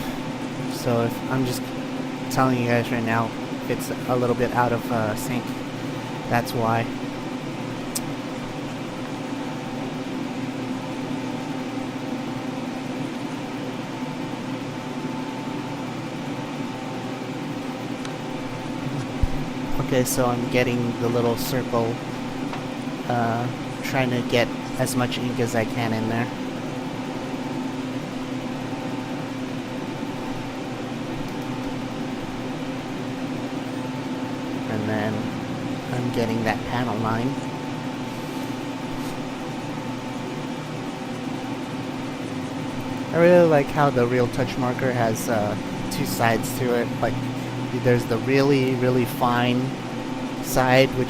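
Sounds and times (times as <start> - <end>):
machine humming and hissing: 0.0 - 51.0.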